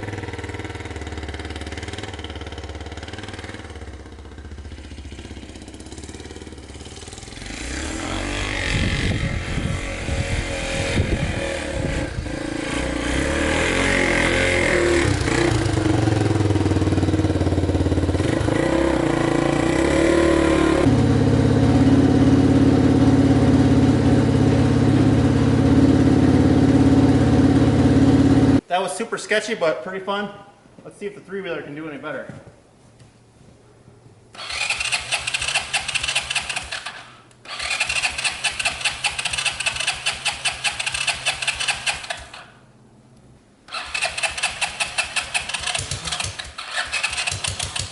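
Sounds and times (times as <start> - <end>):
motorcycle engine revving: 0.0 - 28.6, 34.4 - 42.6, 43.7 - 47.9.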